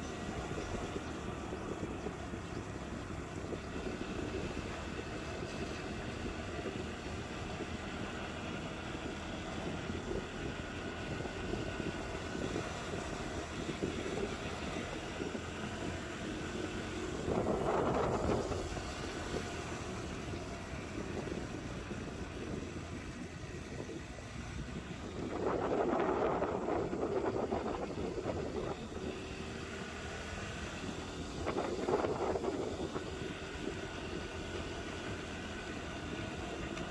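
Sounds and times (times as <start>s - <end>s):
motorcycle engine running: 0.0s - 36.9s
road and wind noise: 0.0s - 36.9s.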